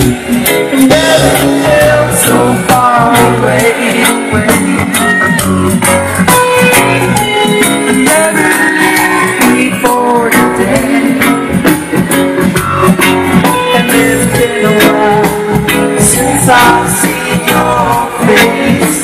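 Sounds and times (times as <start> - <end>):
person singing: 0.0 - 19.0
reggae band music: 0.0 - 19.0.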